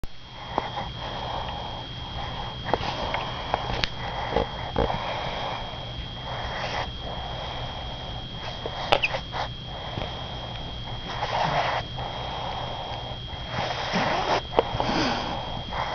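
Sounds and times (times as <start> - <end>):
dog snoring: 0.4 - 15.9.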